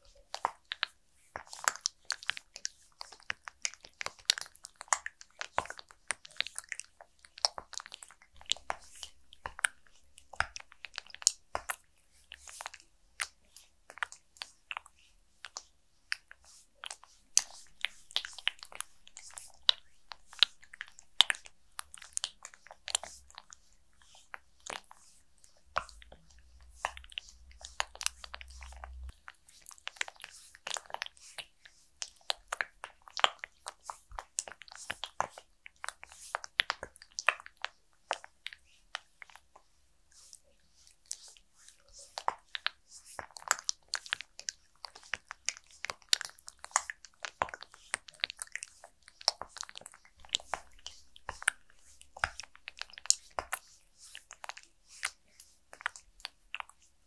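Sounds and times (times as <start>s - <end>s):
hands sliding over sticky skin: 7.4s - 37.4s, 38.9s - 56.9s.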